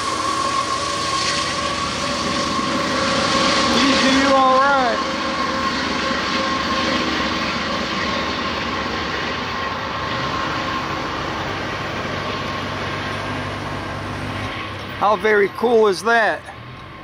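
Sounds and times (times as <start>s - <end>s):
diesel locomotive engine drone: 0.0s - 17.0s
train rolling rumble: 0.0s - 17.0s.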